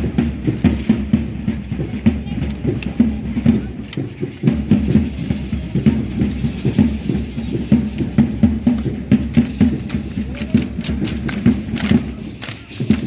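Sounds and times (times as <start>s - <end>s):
drum beating: 0.0s - 13.0s
rattles clicking: 1.6s - 13.0s.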